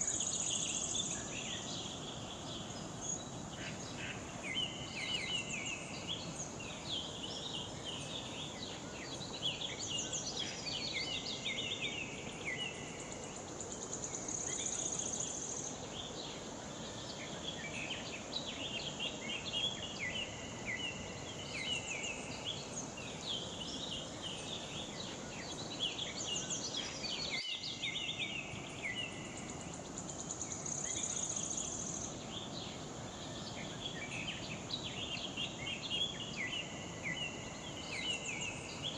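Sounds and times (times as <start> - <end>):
insects trilling: 0.0 - 38.9
steady rushing water hiss: 0.0 - 38.9.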